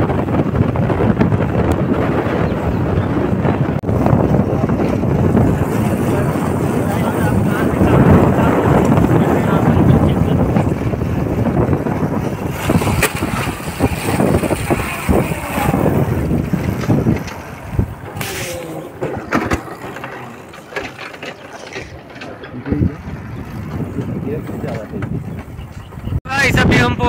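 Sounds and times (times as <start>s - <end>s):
motorcycle engine and road rumble: 0.0s - 26.2s
wind buffeting microphone: 0.0s - 27.0s.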